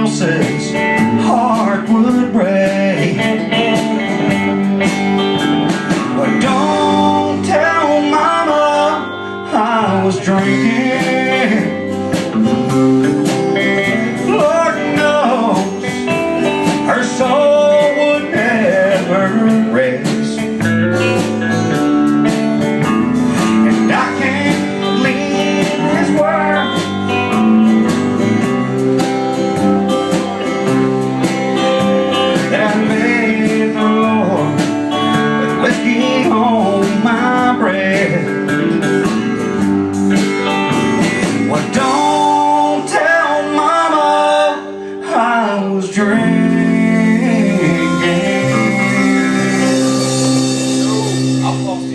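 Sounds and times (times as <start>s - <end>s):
rhythm section: 0.0s - 8.1s, 10.4s - 42.7s, 46.7s - 51.9s
lead guitar bending notes: 0.0s - 51.9s
strummed guitar: 0.0s - 51.9s.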